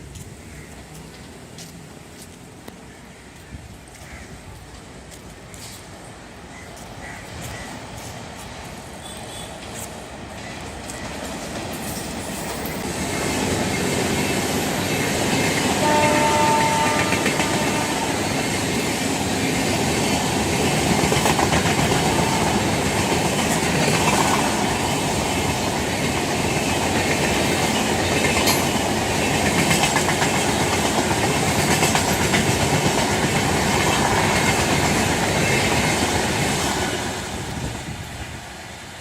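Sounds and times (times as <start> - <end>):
express train rushing past: 7.2 - 39.0.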